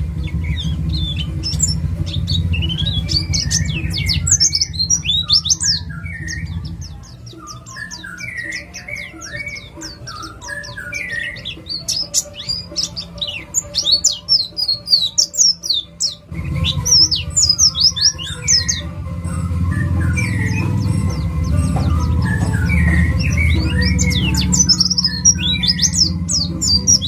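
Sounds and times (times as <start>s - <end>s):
bird singing fast trills: 0.0s - 27.0s.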